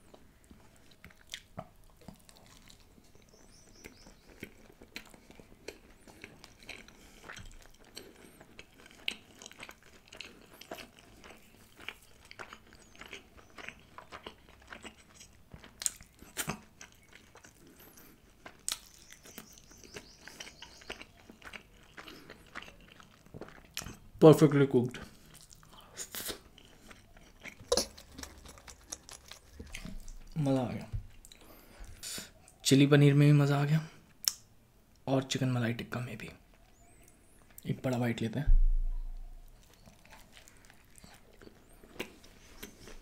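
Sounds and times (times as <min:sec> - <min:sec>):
chewing and mouth sounds: 0:00.0 - 0:24.2, 0:24.9 - 0:32.6, 0:39.0 - 0:43.0.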